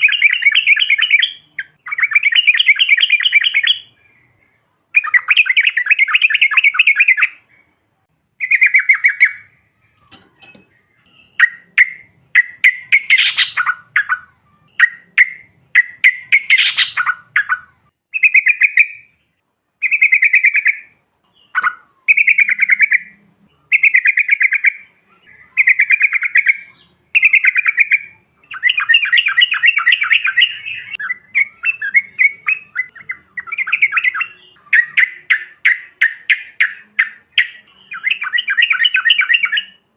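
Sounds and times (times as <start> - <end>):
bulbul singing trilled phrases: 0.0 - 4.2, 5.0 - 7.6, 8.4 - 9.8, 10.4 - 19.2, 19.8 - 39.9.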